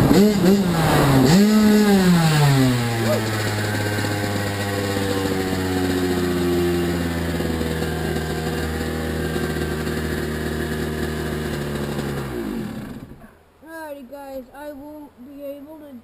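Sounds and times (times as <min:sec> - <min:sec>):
two-stroke dirt bike engine: 0:00.0 - 0:13.4.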